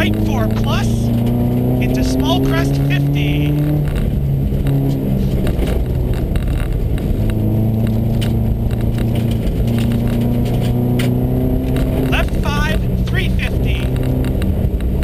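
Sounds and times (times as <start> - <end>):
gravel striking car: 0.0 - 15.0
low road rumble: 0.0 - 15.0
rally car engine pulling hard: 0.0 - 15.0.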